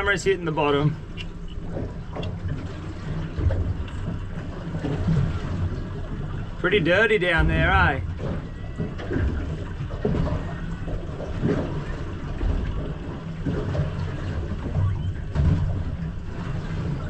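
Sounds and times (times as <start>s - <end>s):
underwater low hum: 0.0s - 17.0s
underwater water noise: 0.0s - 17.0s.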